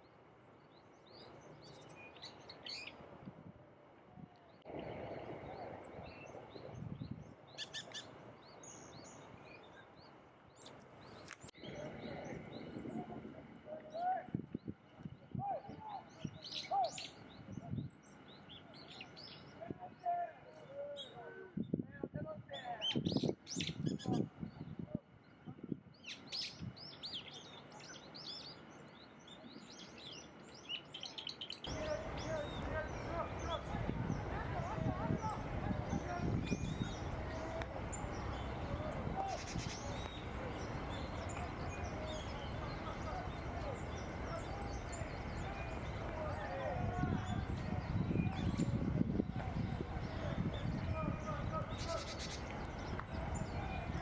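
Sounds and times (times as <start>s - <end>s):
wild birds chirping: 0.0s - 3.0s, 4.5s - 21.2s, 25.2s - 54.0s
faint outdoor background noise: 0.0s - 54.0s.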